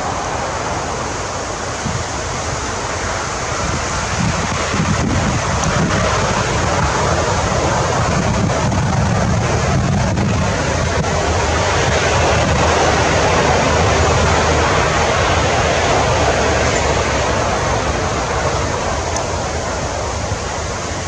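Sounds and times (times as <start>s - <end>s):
loud steady rushing noise: 0.0s - 21.0s.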